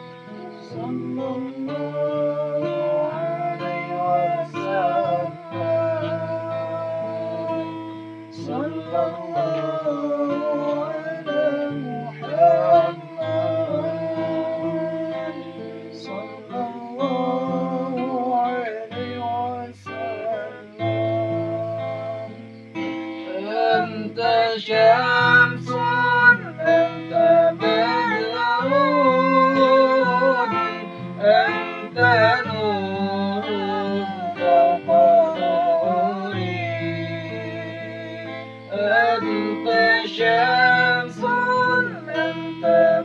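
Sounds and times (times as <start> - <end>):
acoustic guitar: 0.0 - 43.0
person singing ornamented melody: 0.0 - 43.0.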